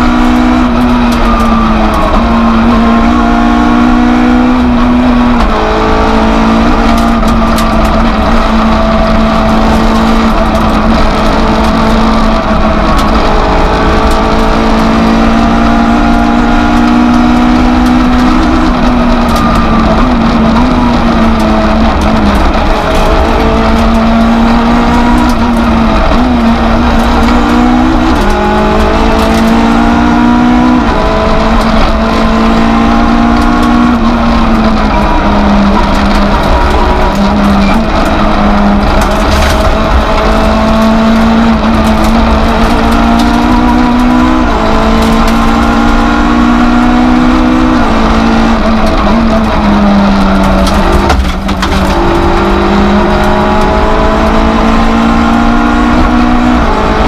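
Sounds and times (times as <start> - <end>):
rally car engine at high revs: 0.0 - 57.0.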